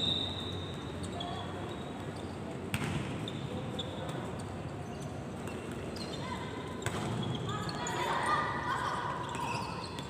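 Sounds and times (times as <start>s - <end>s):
sports hall background noise: 0.0s - 10.0s.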